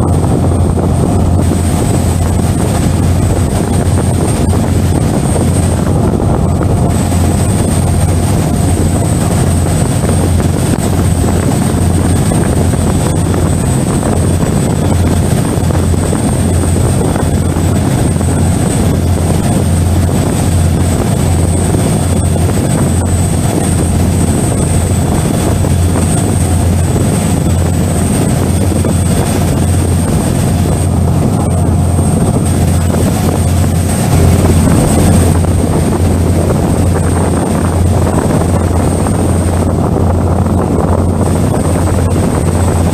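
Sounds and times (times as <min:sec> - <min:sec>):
ferry engines droning: 0:00.0 - 0:42.9.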